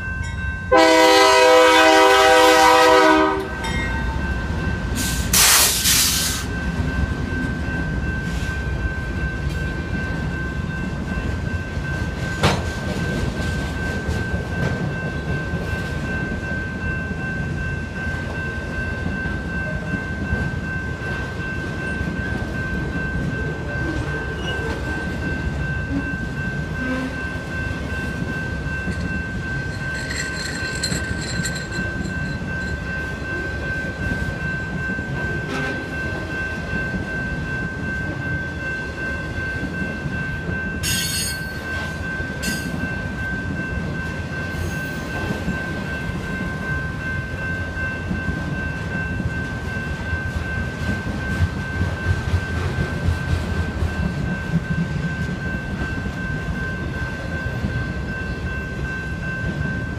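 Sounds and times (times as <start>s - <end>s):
crossing bell ringing: 0.0s - 59.9s
train wheels rumbling on rails: 0.0s - 59.9s.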